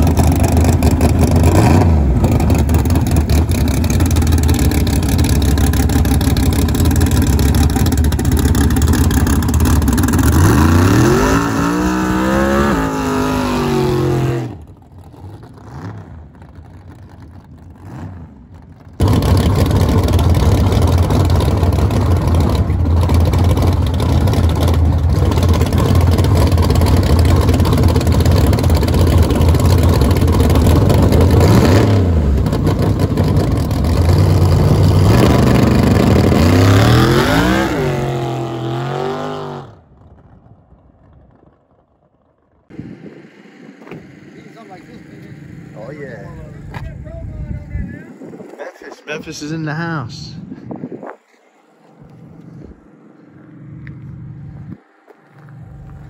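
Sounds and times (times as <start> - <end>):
loud car engine running: 0.0 - 56.0.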